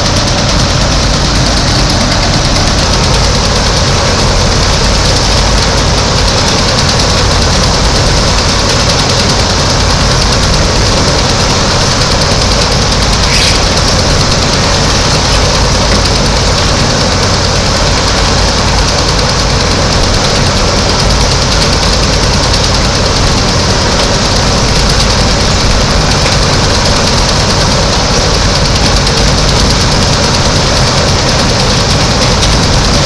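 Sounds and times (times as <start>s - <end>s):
diesel machinery running: 0.0s - 33.0s.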